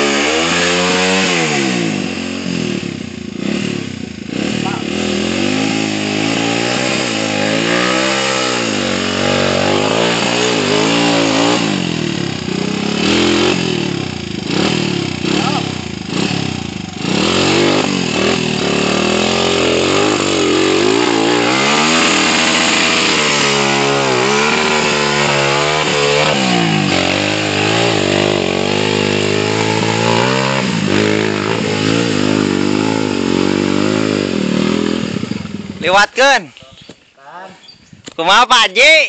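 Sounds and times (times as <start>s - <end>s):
motorcycle engine revving: 0.0s - 36.5s.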